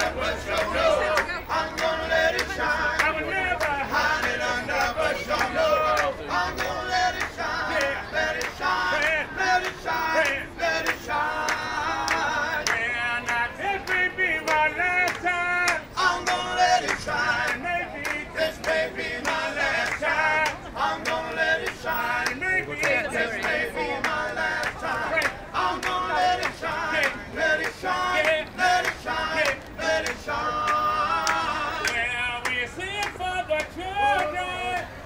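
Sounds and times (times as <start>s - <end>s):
vocal quartet singing in harmony: 0.0s - 33.0s.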